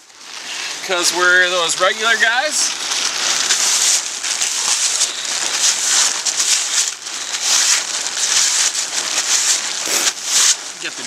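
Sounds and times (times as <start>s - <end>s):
plastic tarp crinkling: 0.0s - 11.0s.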